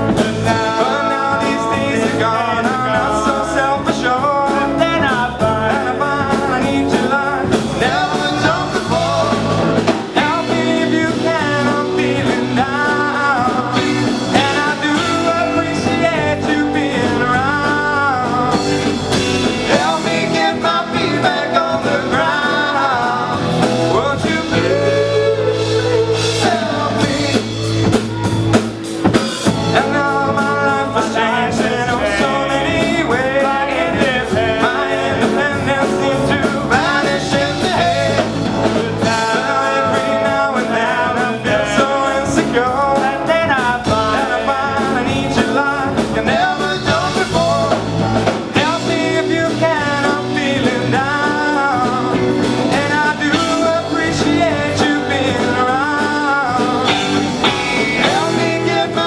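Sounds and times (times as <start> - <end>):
lead vocals singing: 0.0 - 59.0
rock band playing: 0.0 - 59.0.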